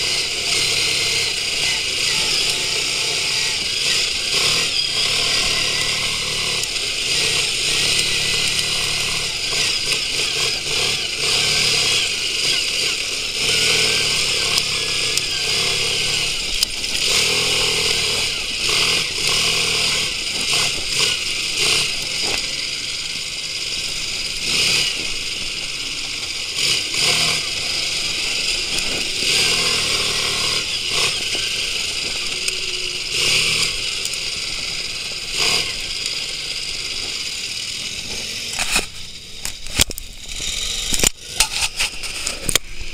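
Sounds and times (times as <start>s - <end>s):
quad bike engine revving: 0.0s - 42.9s.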